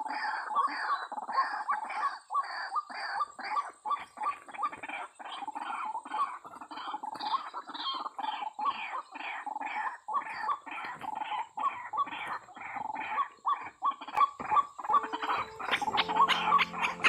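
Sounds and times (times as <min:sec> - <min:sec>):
waterhens calling harshly: 0:00.0 - 0:17.0.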